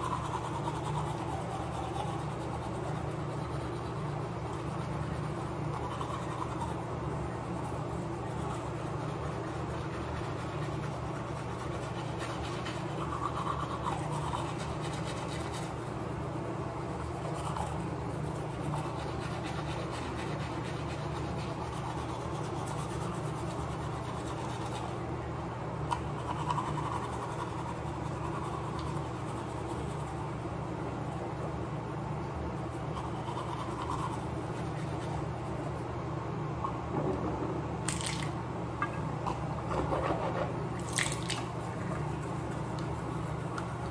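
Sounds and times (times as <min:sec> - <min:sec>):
toothbrush scrubbing teeth: 0:00.0 - 0:25.1, 0:25.9 - 0:35.9, 0:40.8 - 0:43.9
steady low hum: 0:00.0 - 0:43.9.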